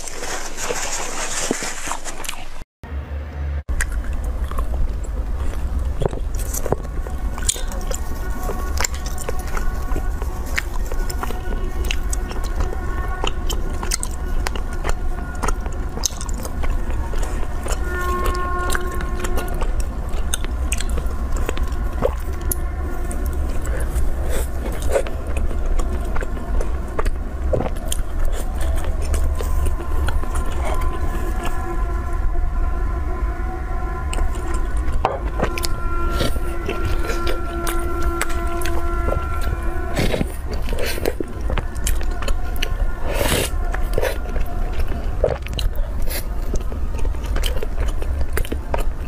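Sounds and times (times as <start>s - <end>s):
steady low hum: 2.9s - 49.0s
person chewing bread: 3.7s - 32.4s, 34.0s - 49.0s.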